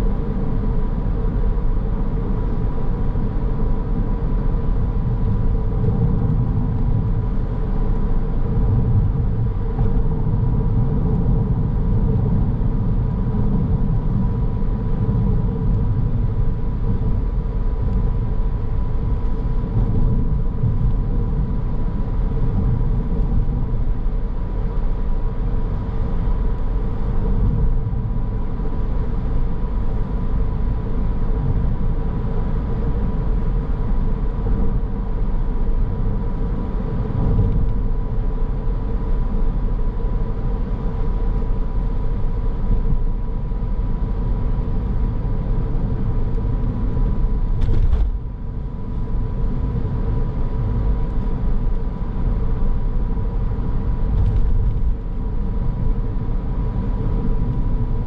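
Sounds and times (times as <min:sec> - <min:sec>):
car road and engine rumble: 0:00.0 - 0:58.0
constant hum inside car: 0:00.0 - 0:58.0.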